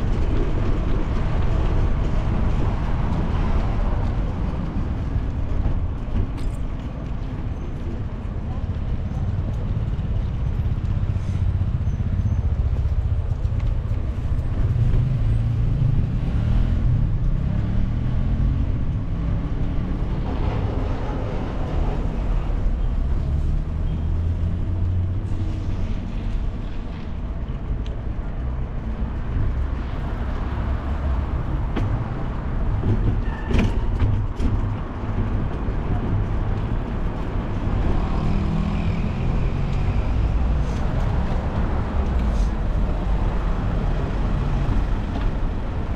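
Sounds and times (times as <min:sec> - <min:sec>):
street traffic rumble: 0:00.0 - 0:45.9.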